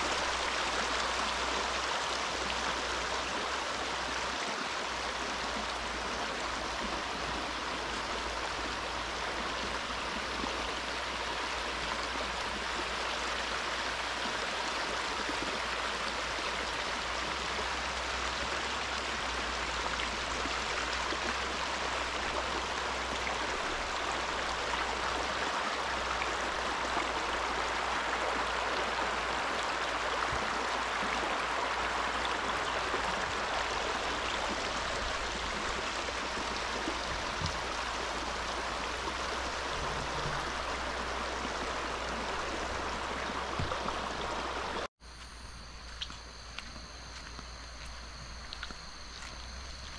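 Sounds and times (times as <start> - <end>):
rocky stream flowing: 0.0 - 44.9, 46.1 - 49.9.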